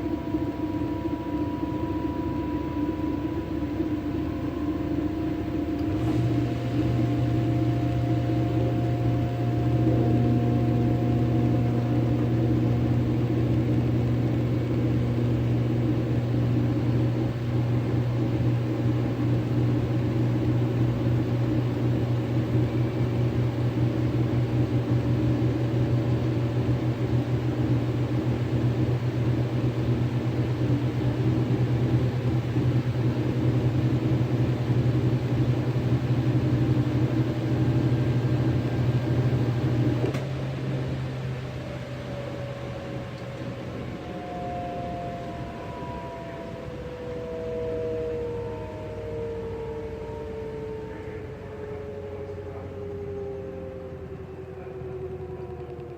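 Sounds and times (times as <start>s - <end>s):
washing machine motor hum: 0.0s - 55.9s.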